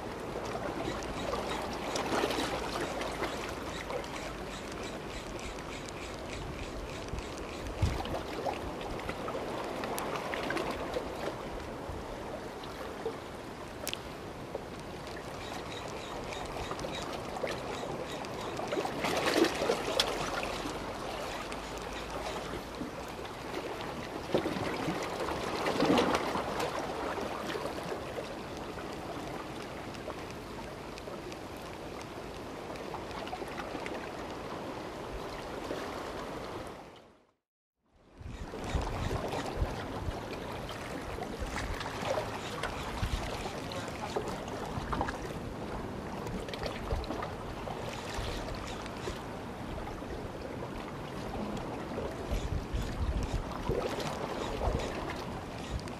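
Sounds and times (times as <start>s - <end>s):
sea water lapping on rocks: 0.0s - 11.9s, 13.9s - 31.5s, 38.5s - 55.9s.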